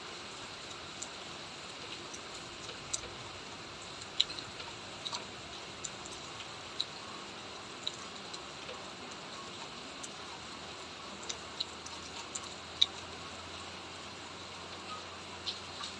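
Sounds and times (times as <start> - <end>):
raindrops ticking on surfaces: 0.0 - 15.9.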